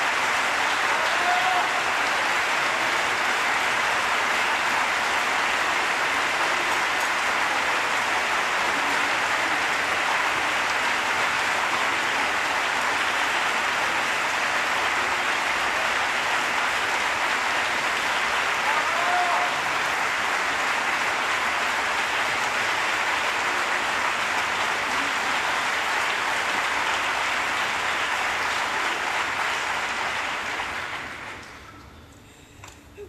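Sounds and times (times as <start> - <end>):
audience applauding: 0.0 - 31.6.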